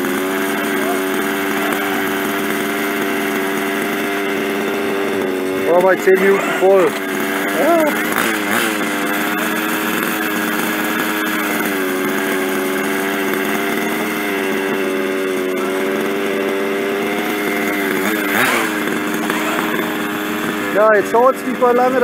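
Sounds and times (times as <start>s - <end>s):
small two-stroke engine running: 0.0s - 22.0s.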